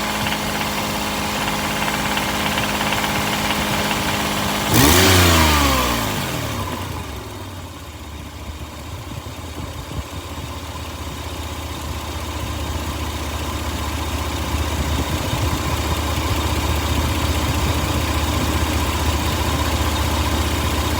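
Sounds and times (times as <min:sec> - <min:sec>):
car engine revving and idling: 0:00.0 - 0:20.9
engine rattle: 0:00.0 - 0:20.9.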